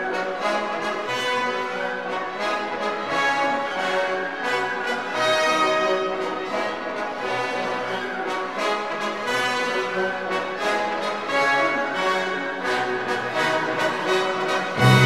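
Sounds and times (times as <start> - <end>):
orchestral music with held notes: 0.0 - 15.0.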